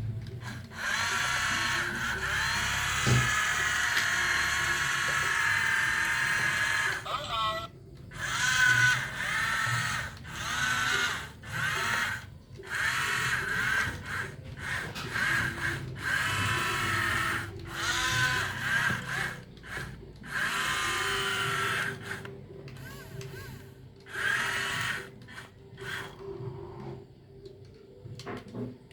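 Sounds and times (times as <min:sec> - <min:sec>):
small electric motors whining: 0:00.0 - 0:28.3.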